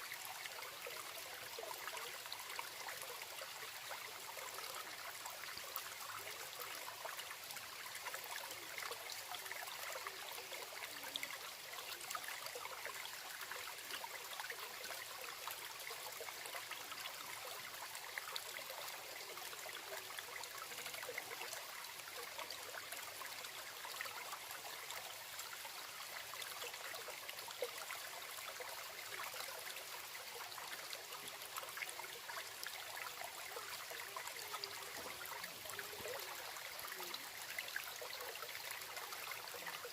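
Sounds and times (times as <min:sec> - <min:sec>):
stream babbling and trickling: 0:00.0 - 0:39.9.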